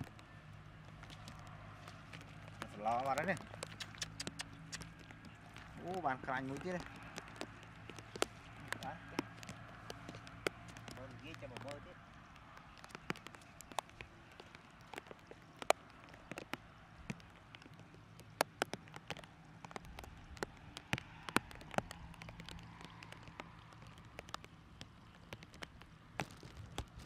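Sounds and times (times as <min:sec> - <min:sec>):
light rain drops ticking: 0:00.0 - 0:27.0.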